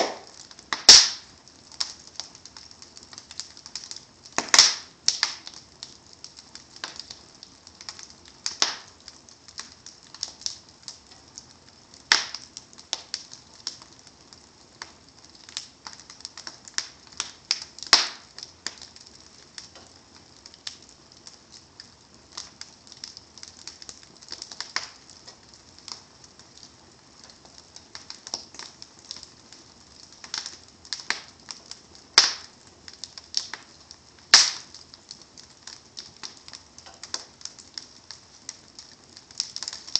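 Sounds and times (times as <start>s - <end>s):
burning logs snapping and popping: 0.0s - 39.9s
faint hiss: 0.0s - 39.9s.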